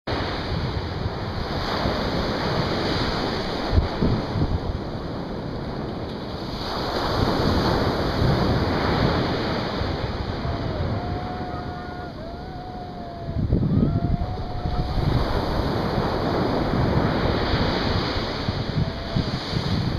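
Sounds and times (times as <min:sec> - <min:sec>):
ocean surf breaking: 0:00.1 - 0:19.9
wind buffeting microphone: 0:00.1 - 0:19.9.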